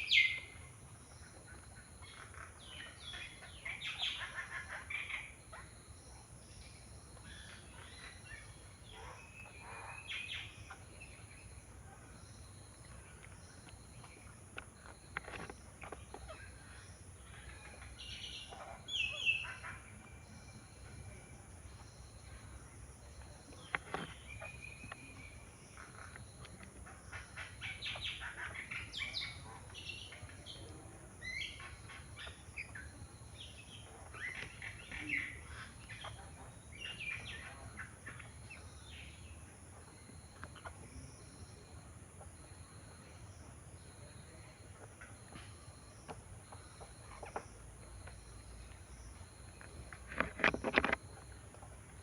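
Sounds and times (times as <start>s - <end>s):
flock of birds chirping: 0.0s - 52.0s.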